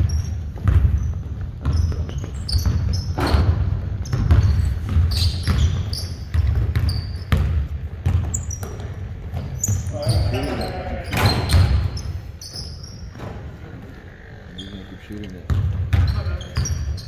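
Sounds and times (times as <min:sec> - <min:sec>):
basketballs bouncing on court: 0:00.0 - 0:13.6, 0:15.4 - 0:17.0
sneaker squeaks: 0:00.0 - 0:17.0.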